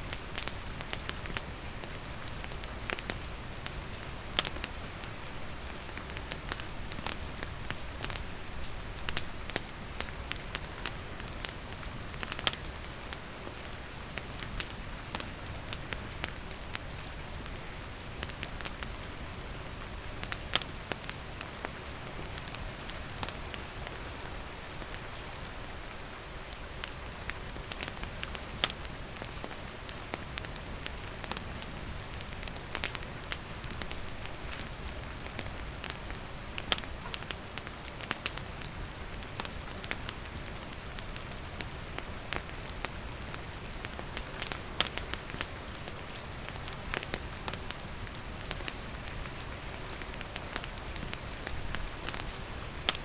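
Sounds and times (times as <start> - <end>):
campfire wood crackling: 0.0 - 53.0
steady rain falling: 0.0 - 53.0.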